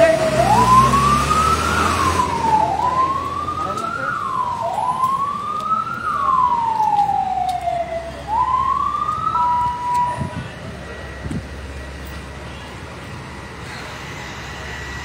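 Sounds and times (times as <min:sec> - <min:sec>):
fire truck siren wailing: 0:00.0 - 0:15.0
low engine rumble: 0:00.0 - 0:15.0.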